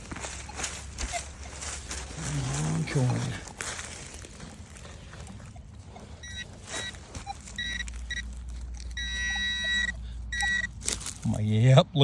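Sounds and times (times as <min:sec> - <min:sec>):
metal detector beeping: 0:00.0 - 0:10.9.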